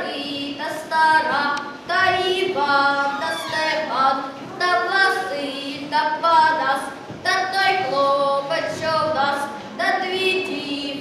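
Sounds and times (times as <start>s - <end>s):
boy singing: 0.0s - 11.0s.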